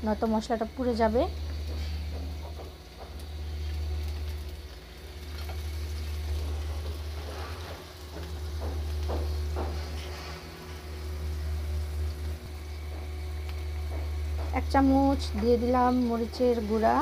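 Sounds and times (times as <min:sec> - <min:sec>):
onion sizzling in hot oil: 0:00.0 - 0:17.0
steady low hum: 0:00.0 - 0:17.0.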